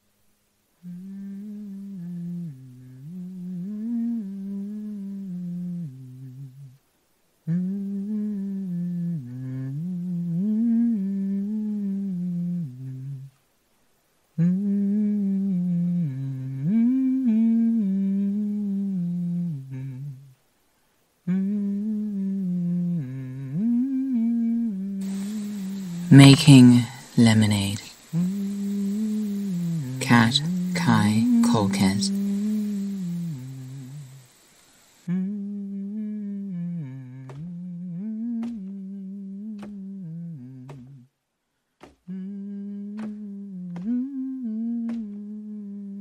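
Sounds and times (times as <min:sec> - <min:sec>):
person humming a slow melody: 0:00.0 - 0:13.5, 0:14.1 - 0:41.2, 0:41.8 - 0:46.0.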